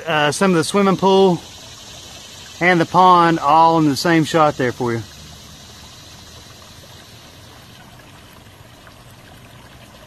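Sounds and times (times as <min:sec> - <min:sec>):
fountain water splashing trickle: 0:00.0 - 0:10.0.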